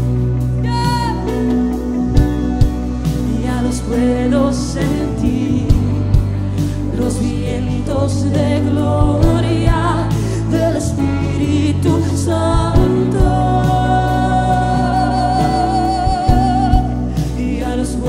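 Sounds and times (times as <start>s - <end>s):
worship band playing: 0.0s - 18.0s
people singing: 3.0s - 18.0s.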